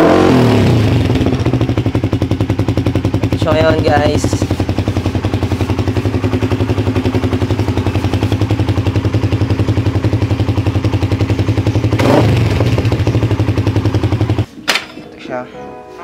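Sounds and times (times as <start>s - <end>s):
motorcycle engine idling: 0.7s - 14.5s.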